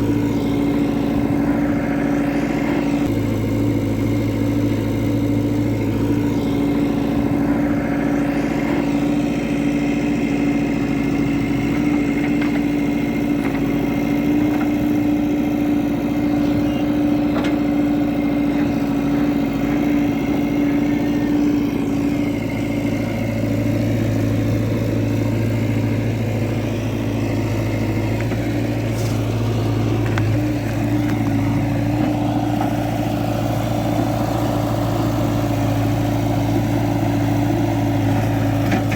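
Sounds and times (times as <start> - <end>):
deep engine hum: 0.0 - 38.9
heavy diesel engine running: 0.0 - 38.9.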